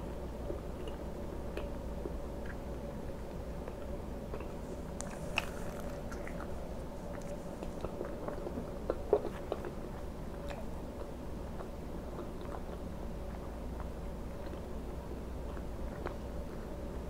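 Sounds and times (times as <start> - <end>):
close chewing with wet mouth clicks: 0.4 - 2.7, 3.3 - 16.8.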